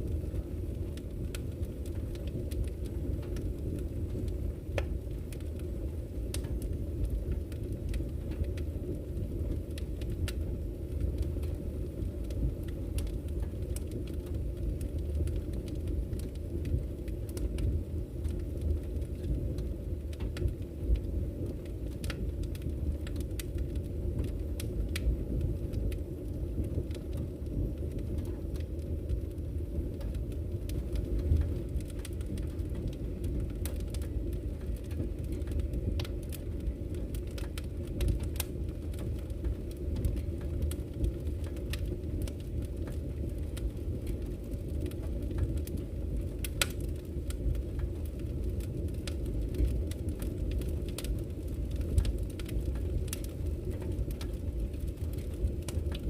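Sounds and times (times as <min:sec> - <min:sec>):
fire rumbling: 0:00.0 - 0:56.0
firewood crackling and popping: 0:00.0 - 0:56.0.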